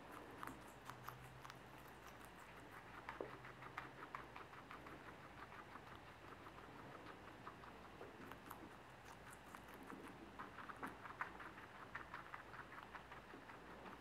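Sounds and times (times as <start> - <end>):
guinea pig crunching food: 0.0 - 14.0.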